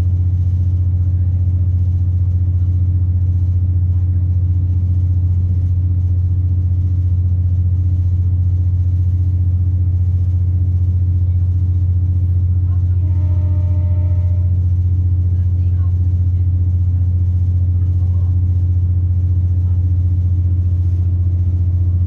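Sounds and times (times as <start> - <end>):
diesel train engine droning: 0.0 - 22.0.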